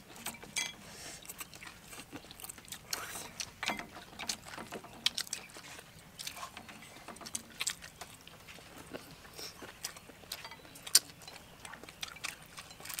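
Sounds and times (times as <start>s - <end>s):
chewing and biting food: 0.0s - 13.0s.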